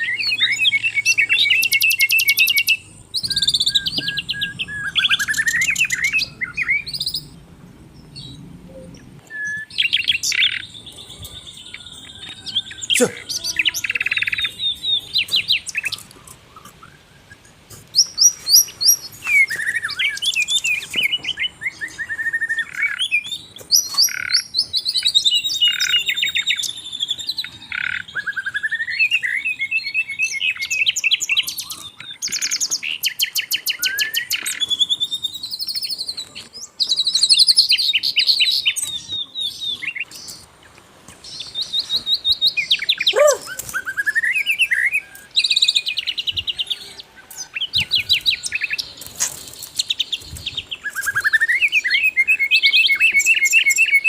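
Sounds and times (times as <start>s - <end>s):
bird singing chirps and trills: 0.0s - 54.0s.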